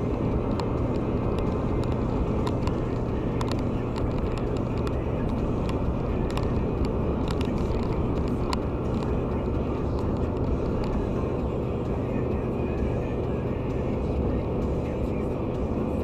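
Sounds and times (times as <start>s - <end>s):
car road and engine noise: 0.0s - 16.0s
faint ticks: 0.4s - 15.6s.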